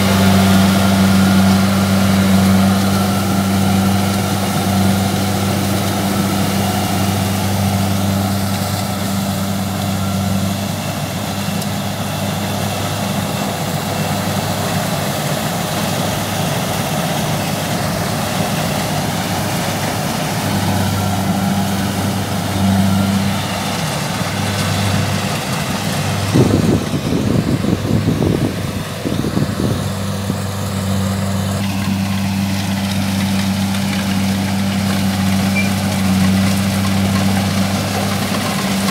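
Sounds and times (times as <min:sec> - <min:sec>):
combine harvester engine droning: 0:00.0 - 0:38.9
rough irregular low rumbling: 0:00.0 - 0:38.9.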